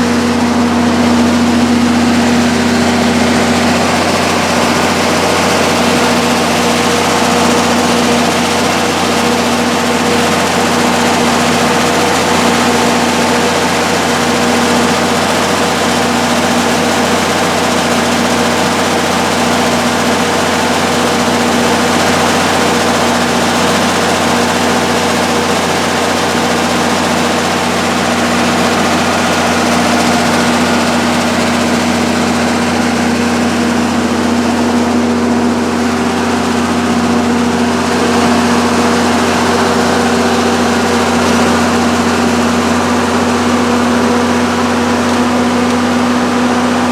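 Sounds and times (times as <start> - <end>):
diesel generator humming: 0.0 - 46.9.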